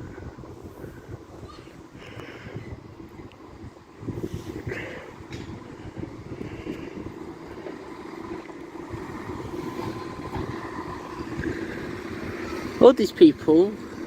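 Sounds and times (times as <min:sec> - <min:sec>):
diesel train engine rumble: 0:00.0 - 0:14.0.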